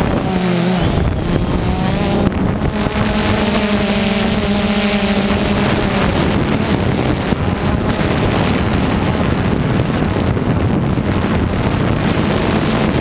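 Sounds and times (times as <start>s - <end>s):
drone propellers buzzing: 0.0s - 13.0s
wind on microphone: 0.0s - 13.0s.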